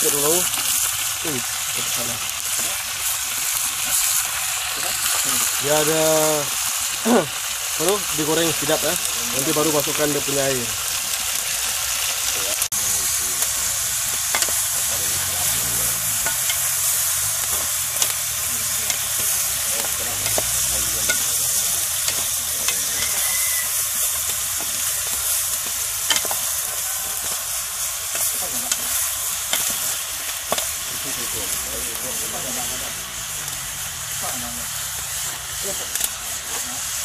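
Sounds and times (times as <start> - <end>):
chicken sizzling in oil: 0.0 - 37.0.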